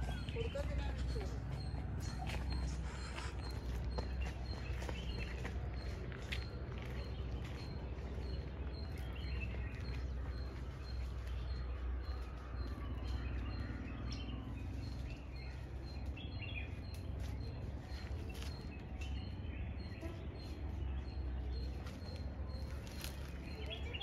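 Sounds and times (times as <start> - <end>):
bird chirps and calls: 0.0 - 24.0
steady low rumble: 0.0 - 24.0.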